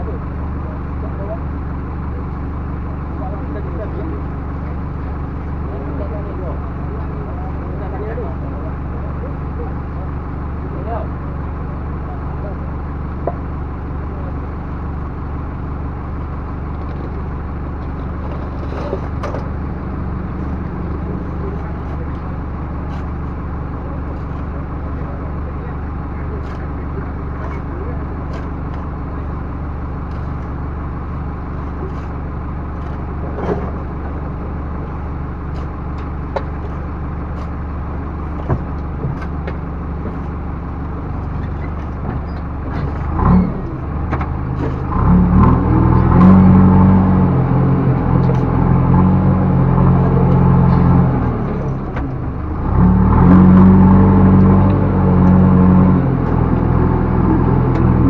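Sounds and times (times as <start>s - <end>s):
diesel engine idling and revving: 0.0s - 58.0s.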